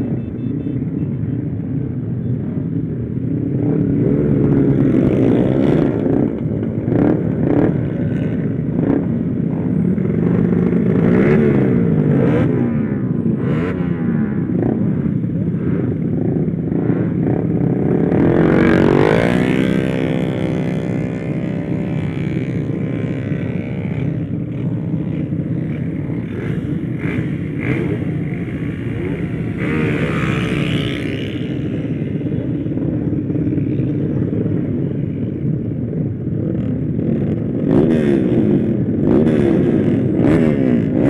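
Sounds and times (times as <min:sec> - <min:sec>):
motorcycle engine accelerating: 0:01.9 - 0:41.0.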